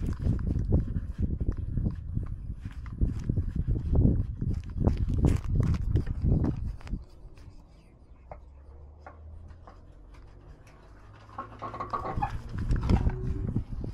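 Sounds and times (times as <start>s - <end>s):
camera rubbing against fur: 0.0s - 13.9s.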